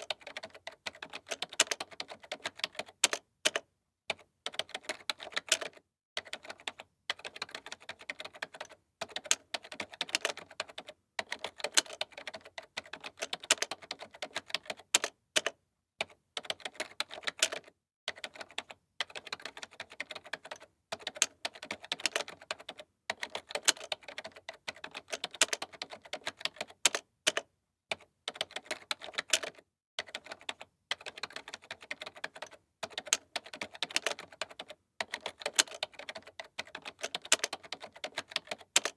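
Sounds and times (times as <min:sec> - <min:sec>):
keyboard typing clicks: 0:00.0 - 0:38.9.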